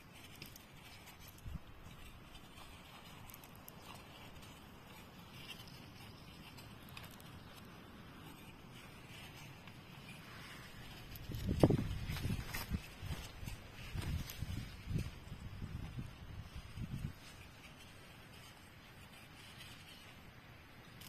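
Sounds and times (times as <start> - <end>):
quiet outdoor background: 0.0 - 21.0
scratching and light ticks: 0.0 - 21.0.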